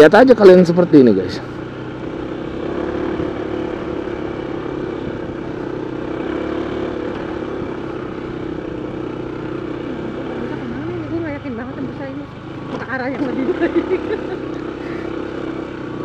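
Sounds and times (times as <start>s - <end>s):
scooter engine humming: 0.0s - 16.0s
wind and road noise: 0.0s - 16.0s.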